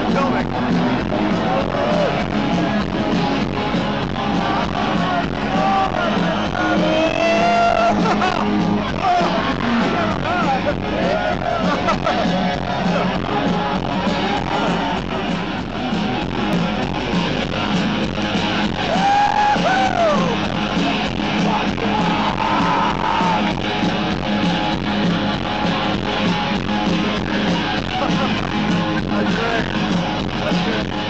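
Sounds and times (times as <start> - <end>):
crowd yelling: 0.0 - 31.0
electric guitar: 0.0 - 31.0
steady drum beat: 0.0 - 31.0.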